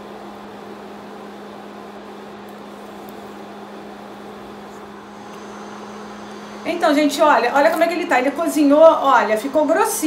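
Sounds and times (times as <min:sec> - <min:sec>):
kitchen appliance humming: 0:00.0 - 0:10.0.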